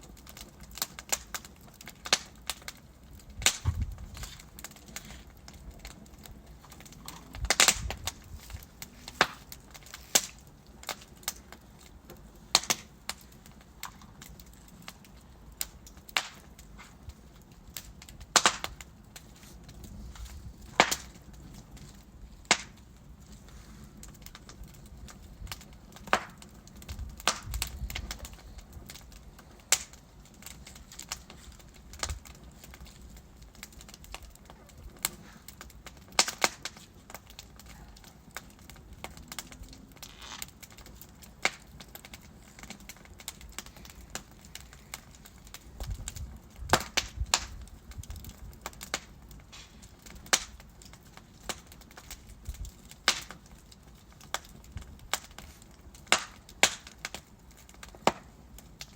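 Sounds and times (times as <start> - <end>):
burning logs crackling: 0.0 - 58.9
low hiss of flame: 0.0 - 58.9
sharp pops and snaps: 0.2 - 15.0, 15.6 - 22.8, 24.0 - 53.5, 54.2 - 58.9.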